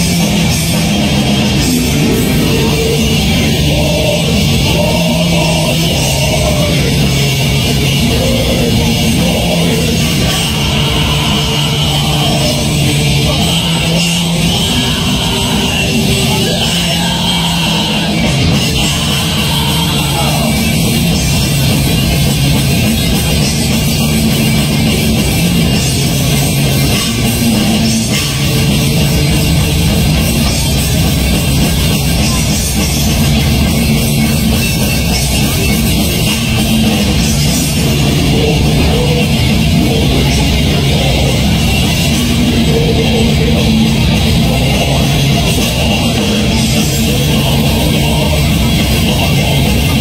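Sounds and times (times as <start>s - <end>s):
heavy metal band playing live: 0.0s - 50.0s.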